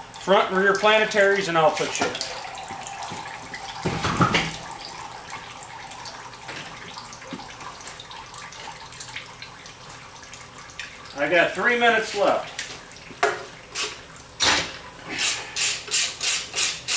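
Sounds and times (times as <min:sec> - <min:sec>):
fluid trickling into a bucket: 0:00.0 - 0:16.3.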